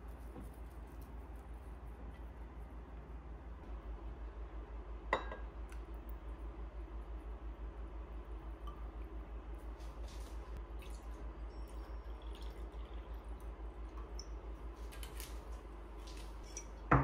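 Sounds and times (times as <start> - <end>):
low pulsing hum: 0.0 - 17.0.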